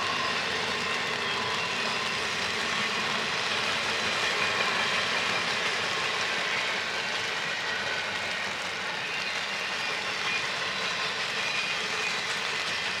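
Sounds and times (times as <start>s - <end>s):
train rumbling past: 0.0s - 13.0s
wheels on rails: 0.0s - 13.0s.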